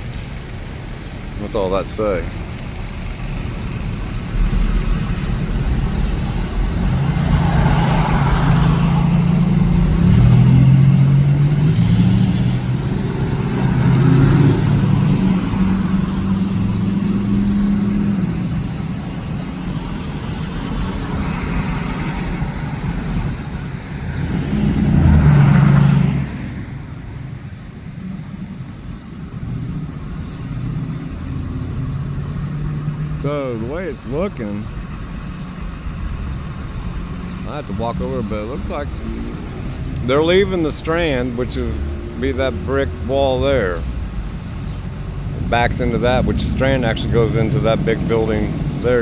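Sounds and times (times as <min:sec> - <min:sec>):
motor vehicles passing: 0:00.0 - 0:49.0.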